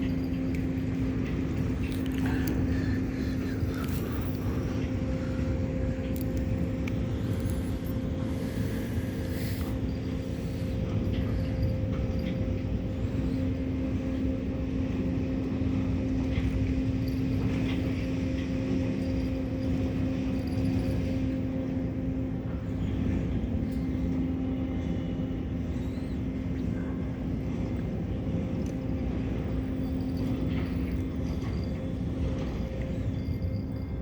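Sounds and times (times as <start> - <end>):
low machine drone: 0.0 - 34.0.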